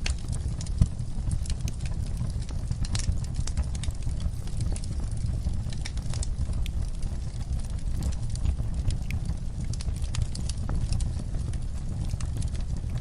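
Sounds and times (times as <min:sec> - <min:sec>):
low rumble of flames: 0:00.0 - 0:13.0
sharp pops of fire: 0:00.0 - 0:13.0
wood fire crackling: 0:00.0 - 0:13.0.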